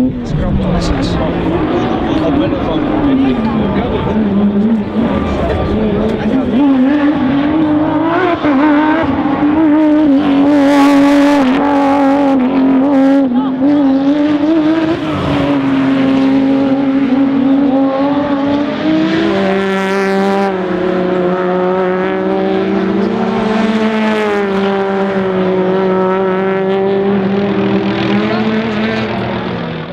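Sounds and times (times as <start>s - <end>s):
rally car engine revving high: 0.0s - 29.9s.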